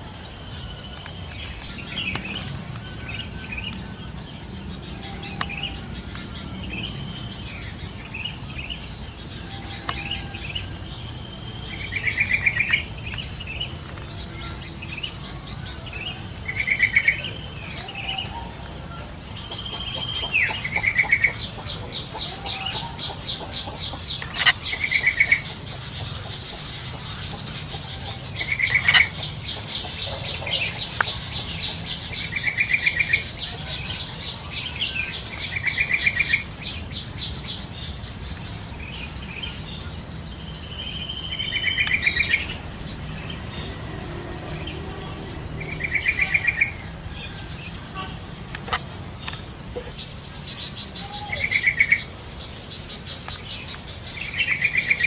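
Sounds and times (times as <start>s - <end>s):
bulbuls calling: 0.0s - 55.0s.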